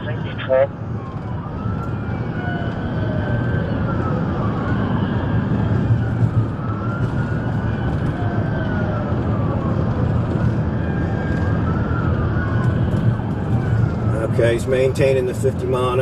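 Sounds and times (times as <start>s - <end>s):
police siren wailing: 0.0s - 14.6s
engine and road rumble: 0.0s - 16.0s.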